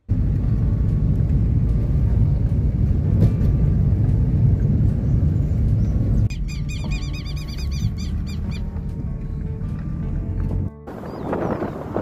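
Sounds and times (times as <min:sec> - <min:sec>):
car driving on dirt road: 0:00.0 - 0:12.0.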